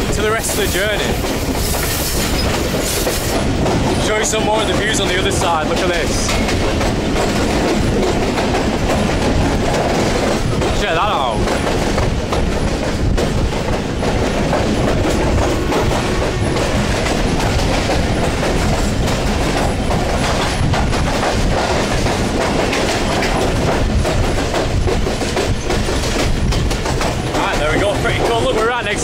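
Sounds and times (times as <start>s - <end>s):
train wheels rumbling on rails: 0.0s - 29.0s
wheels clacking over track: 0.0s - 29.0s.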